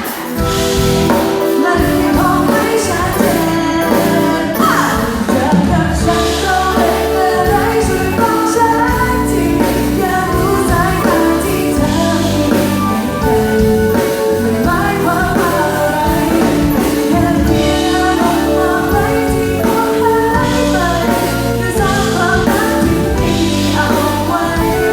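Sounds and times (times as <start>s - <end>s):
band accompaniment: 0.0s - 24.9s
woman singing pop song: 0.0s - 24.9s.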